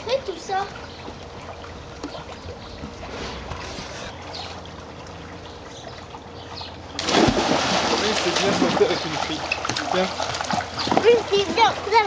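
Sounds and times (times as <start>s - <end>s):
pool pump humming: 0.0s - 12.0s
water trickling: 0.0s - 12.0s.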